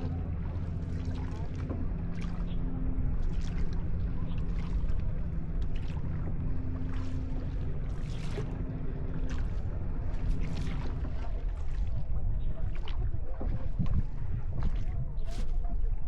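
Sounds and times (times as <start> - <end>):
boat engine droning: 0.0 - 16.0
water splashing: 0.0 - 16.0.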